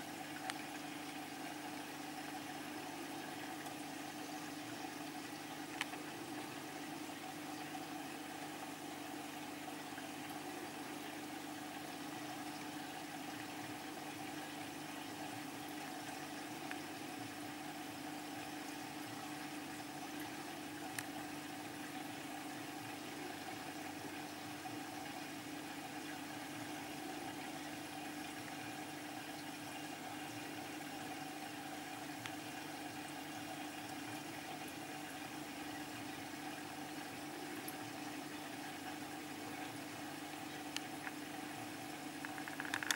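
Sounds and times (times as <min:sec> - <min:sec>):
aquarium pump humming: 0:00.0 - 0:42.9.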